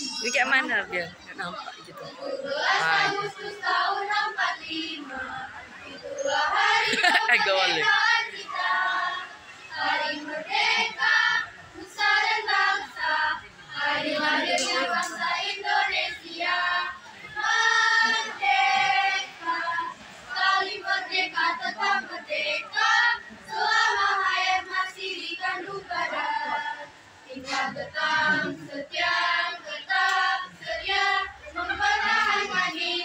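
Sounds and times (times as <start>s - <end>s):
girls choir singing: 1.0s - 33.0s.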